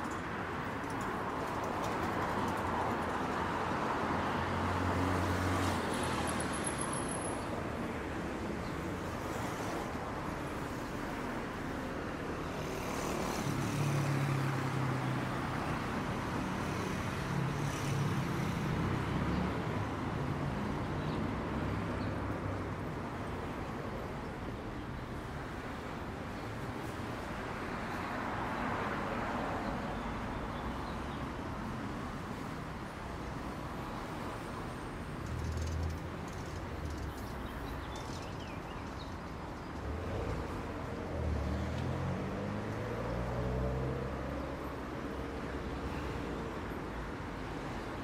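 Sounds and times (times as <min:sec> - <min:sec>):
busy street traffic: 0:00.0 - 0:48.0
vehicles passing close: 0:00.0 - 0:48.0.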